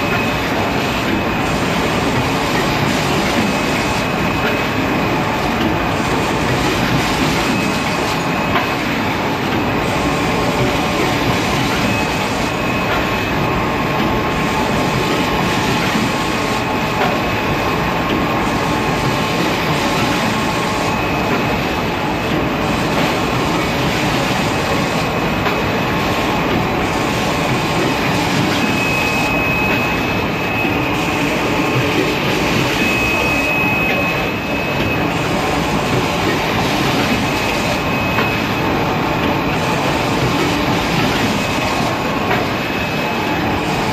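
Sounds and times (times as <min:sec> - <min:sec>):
packing machine clatter: 0:00.0 - 0:43.9
thin high machine whine: 0:00.0 - 0:43.9.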